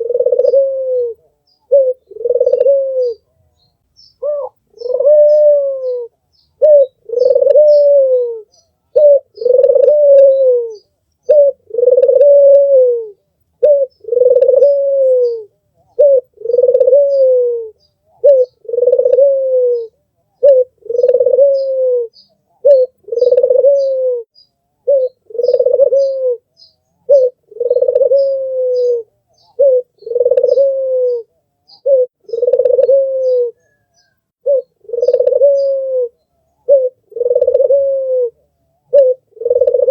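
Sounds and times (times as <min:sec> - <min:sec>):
small birds chirping: 0:00.0 - 0:12.5, 0:13.1 - 0:39.9
dove cooing: 0:00.0 - 0:39.9.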